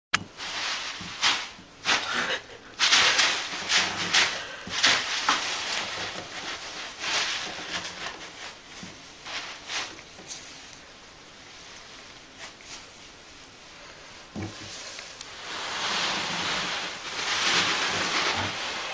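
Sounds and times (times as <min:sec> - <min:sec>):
small balls rustling: 0:00.2 - 0:18.9.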